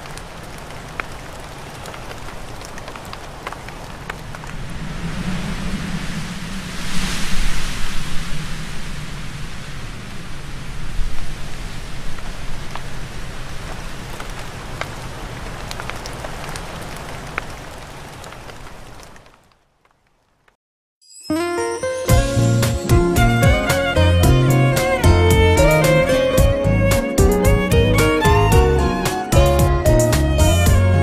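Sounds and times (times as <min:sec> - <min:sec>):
rain falling: 0:00.0 - 0:20.6, 0:22.1 - 0:31.0.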